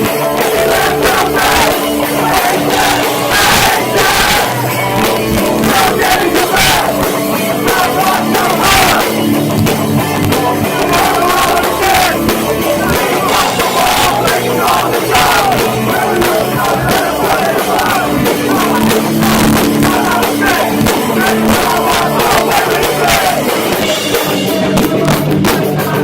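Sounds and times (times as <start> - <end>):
crowd shouting along: 0.0 - 26.0
distorted electric guitars: 0.0 - 26.0
pounding drums: 0.0 - 26.0.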